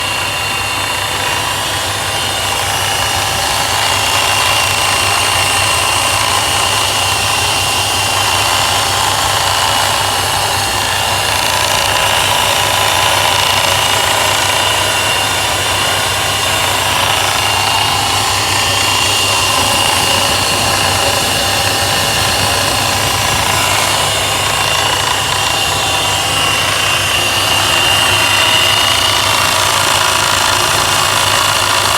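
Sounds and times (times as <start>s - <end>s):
idling engine hum: 0.0s - 31.9s
supercharger whine: 0.0s - 31.9s.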